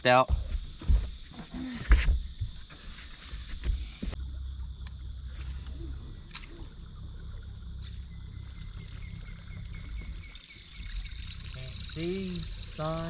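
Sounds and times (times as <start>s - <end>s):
insects droning: 0.0s - 13.0s
low rumble: 2.0s - 12.8s.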